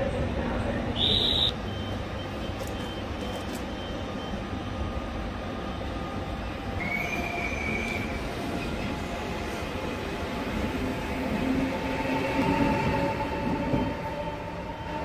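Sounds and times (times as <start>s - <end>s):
train coaches rumbling: 0.0s - 15.0s.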